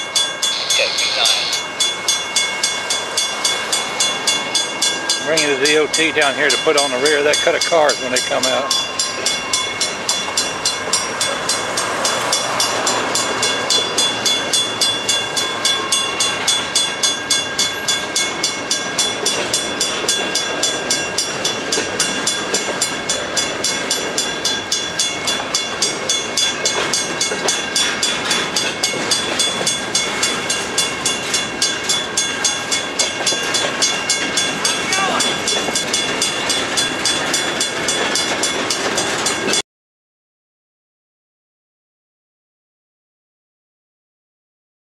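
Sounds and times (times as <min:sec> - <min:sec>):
crossing bell ringing: 0:00.0 - 0:39.6
freight cars rolling on rails: 0:00.0 - 0:39.6.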